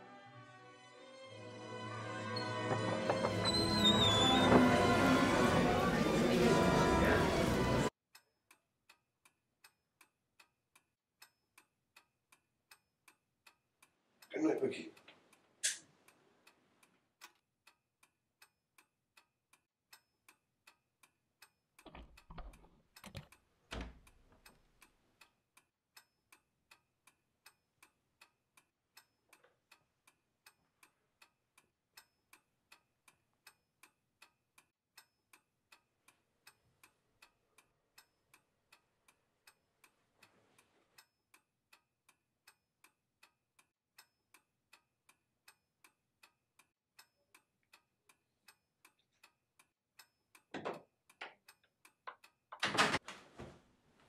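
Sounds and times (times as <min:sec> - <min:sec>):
clock ticking: 0:08.1 - 0:52.7.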